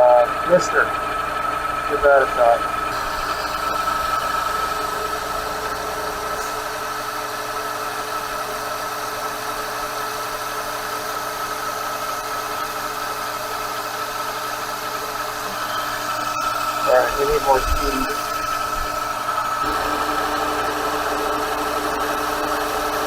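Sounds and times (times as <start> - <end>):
coolant mister hissing: 0.0 - 23.0
metal lathe cutting steel: 0.0 - 23.0.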